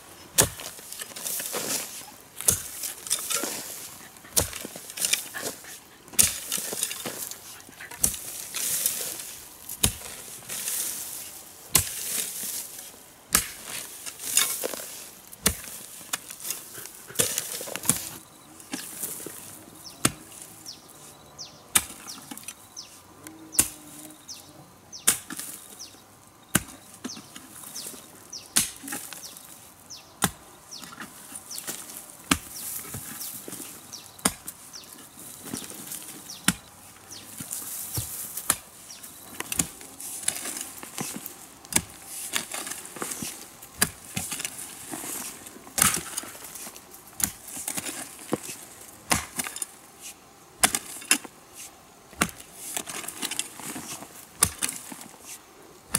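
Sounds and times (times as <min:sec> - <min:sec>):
rustling and scraping: 0:00.0 - 0:23.1, 0:26.6 - 0:55.9
digging tool striking soil: 0:00.3 - 0:20.4, 0:21.7 - 0:22.6, 0:25.0 - 0:25.7, 0:26.5 - 0:29.5, 0:30.2 - 0:55.9.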